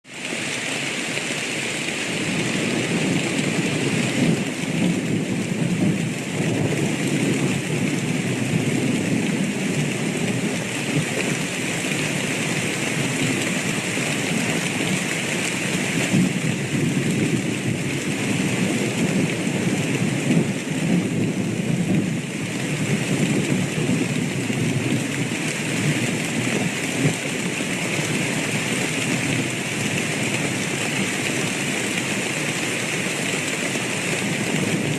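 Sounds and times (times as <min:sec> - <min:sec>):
heavy rain: 0:00.0 - 0:34.9
thunder rumbling: 0:02.0 - 0:34.9.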